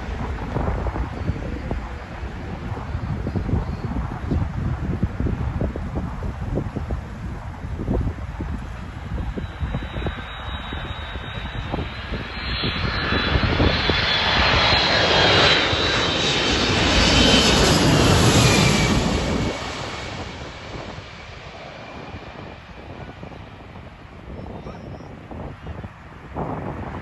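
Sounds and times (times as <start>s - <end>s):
jet airliner passing close by: 0.0s - 27.0s.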